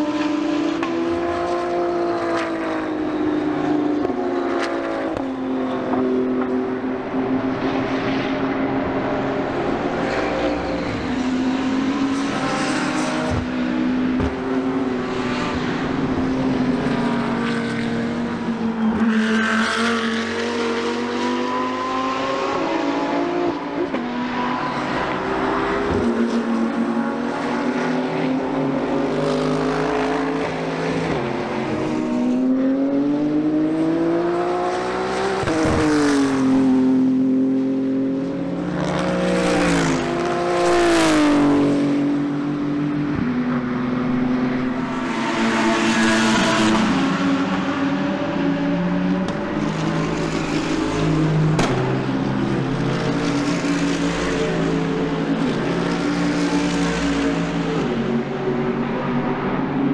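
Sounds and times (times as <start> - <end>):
race car engines passing: 0.0 - 59.9.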